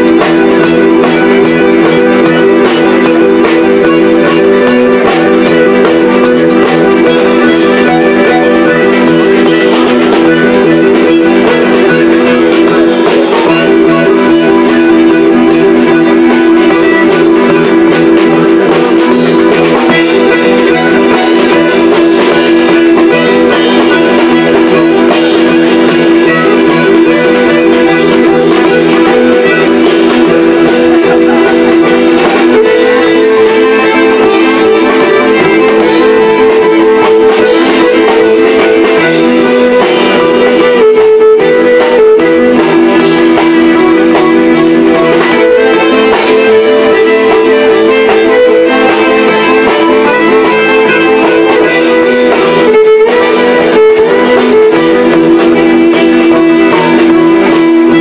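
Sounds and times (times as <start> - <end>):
accordion playing held chords: 0.0 - 58.0
fiddle: 0.0 - 58.0
light percussion: 0.0 - 58.0.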